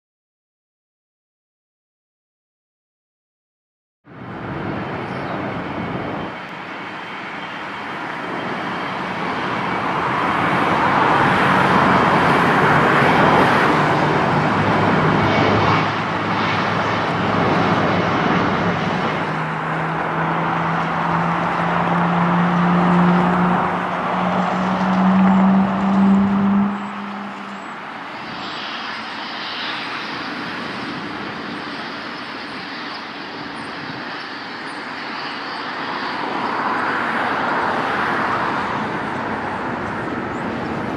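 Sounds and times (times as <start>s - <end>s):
jet engines running: 4.1s - 40.9s.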